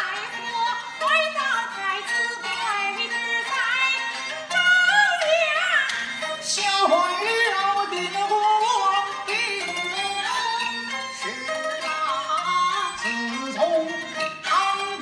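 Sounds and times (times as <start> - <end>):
high singing voice: 0.0 - 15.0
instrumental accompaniment: 0.0 - 15.0.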